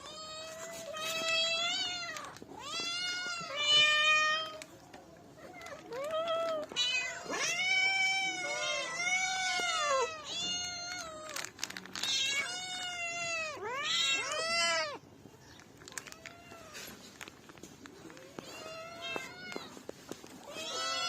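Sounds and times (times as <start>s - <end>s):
cats meowing: 0.0s - 21.0s.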